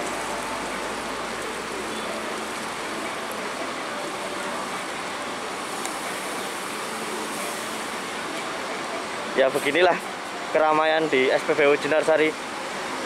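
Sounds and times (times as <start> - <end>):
diesel buses idling: 0.0 - 11.8.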